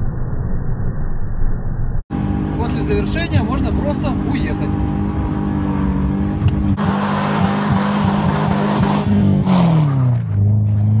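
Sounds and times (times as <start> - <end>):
car engine revving high: 2.1 - 11.0.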